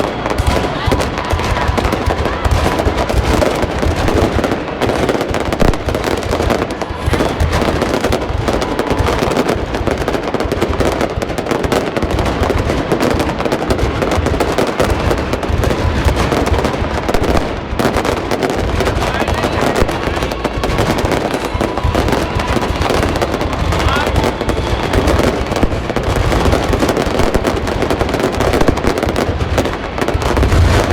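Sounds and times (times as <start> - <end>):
fireworks bangs and crackling: 0.0 - 30.9.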